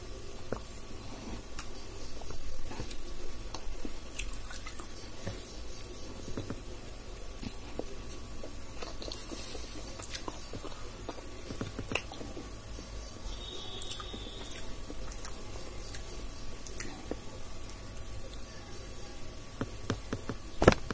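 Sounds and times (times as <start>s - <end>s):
person chewing food: 0.0s - 18.5s.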